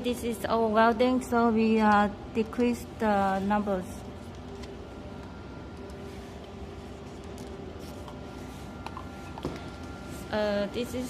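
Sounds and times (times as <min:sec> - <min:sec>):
faint machine hum: 0:00.0 - 0:11.0.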